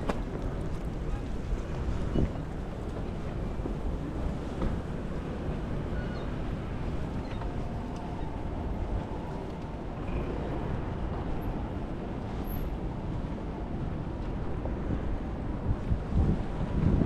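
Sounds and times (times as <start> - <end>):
faint city street ambience: 0.0 - 17.0
wind buffeting microphone: 0.0 - 17.0.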